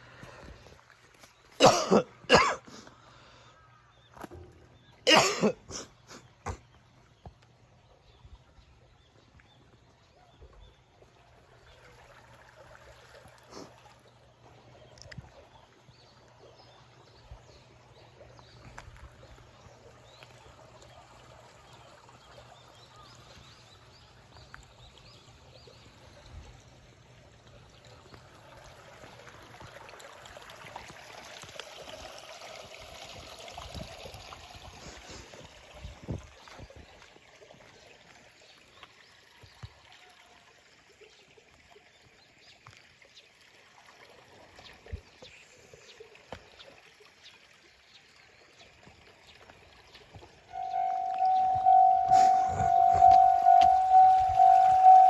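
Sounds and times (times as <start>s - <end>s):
running water or wind: 0.0s - 55.0s.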